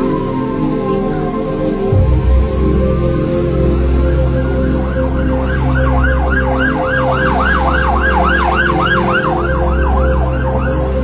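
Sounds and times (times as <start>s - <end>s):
emergency siren yelping: 0.0s - 11.0s
low steady drone: 0.0s - 11.0s.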